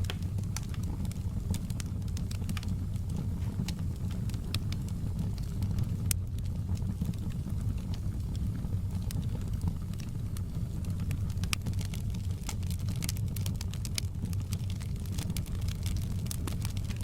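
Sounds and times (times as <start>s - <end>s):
fire crackles and pops: 0.0s - 17.0s
fire rumbling in fireplace: 0.0s - 17.0s.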